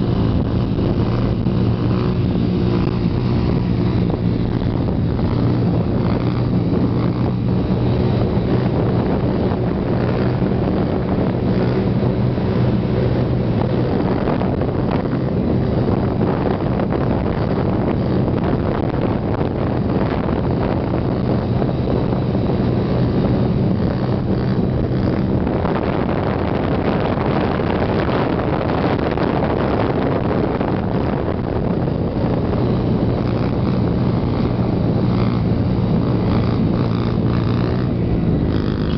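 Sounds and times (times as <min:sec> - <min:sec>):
dirt bike engine running: 0:00.0 - 0:38.9
wind noise on microphone: 0:00.0 - 0:38.9.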